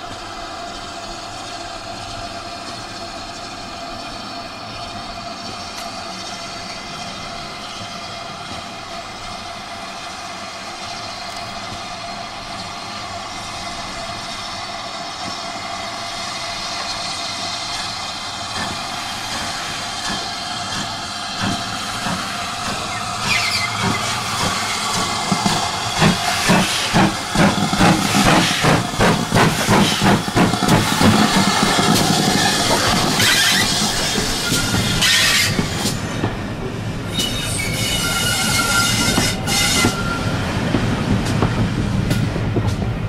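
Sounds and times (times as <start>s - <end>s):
steam hissing: 0.0s - 42.9s
steam locomotive exhaust beats: 0.0s - 43.0s.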